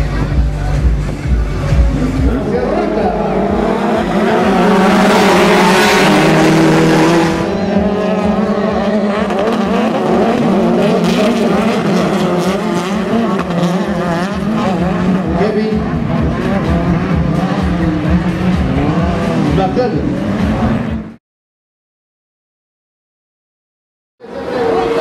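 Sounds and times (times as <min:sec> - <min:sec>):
racing engines revving: 0:00.0 - 0:21.2, 0:24.2 - 0:25.0.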